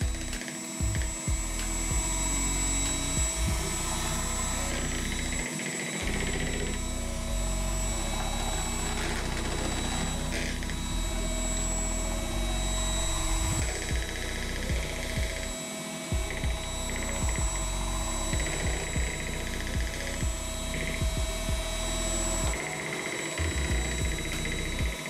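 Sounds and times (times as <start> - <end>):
electric hand mixer running: 0.0 - 25.0.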